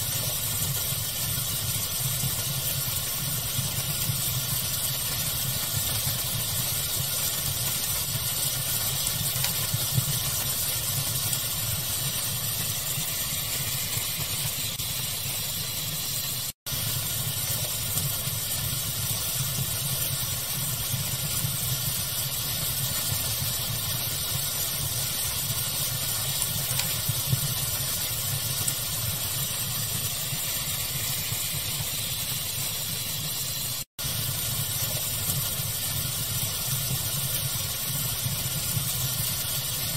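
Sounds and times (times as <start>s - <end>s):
fire hiss: 0.0s - 39.9s.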